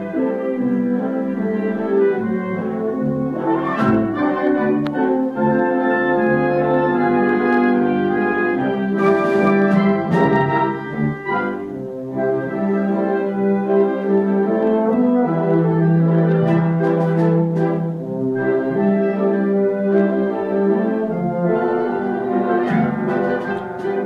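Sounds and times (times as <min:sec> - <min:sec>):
military band playing: 0:00.0 - 0:24.0.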